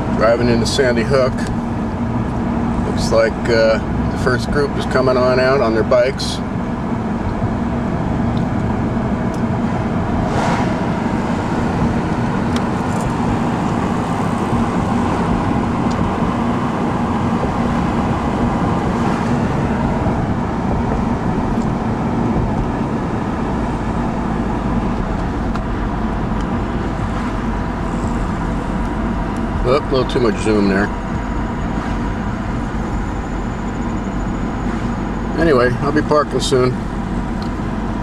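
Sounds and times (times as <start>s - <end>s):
car engine and tyre noise: 0.0s - 38.0s
low steady hum: 0.0s - 38.0s.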